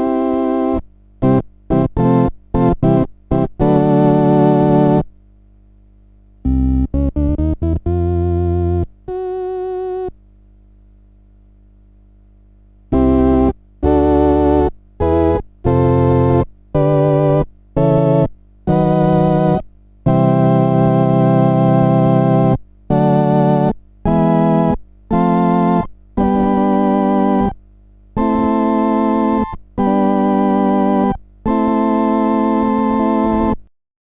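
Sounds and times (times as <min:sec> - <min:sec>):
electronic organ chords: 0:00.0 - 0:05.1, 0:06.4 - 0:10.2, 0:12.9 - 0:33.7
steady low hum: 0:00.8 - 0:32.4.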